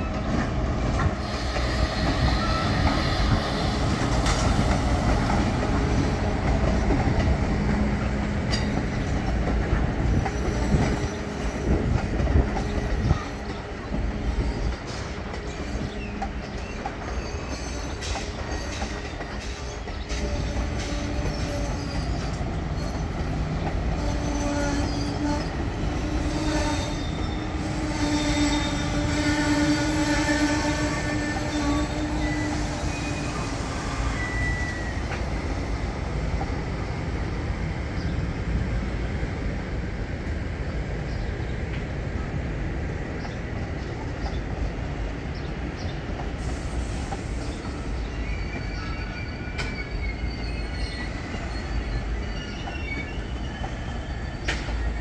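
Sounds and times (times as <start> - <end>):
train wheel squeal: 0.0 - 38.3, 45.8 - 55.0
train cars rolling on rails: 0.0 - 55.0.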